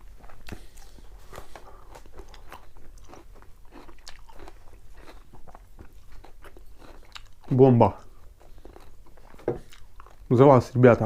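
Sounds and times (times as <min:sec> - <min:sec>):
person chewing crunchy food: 0:00.0 - 0:10.3.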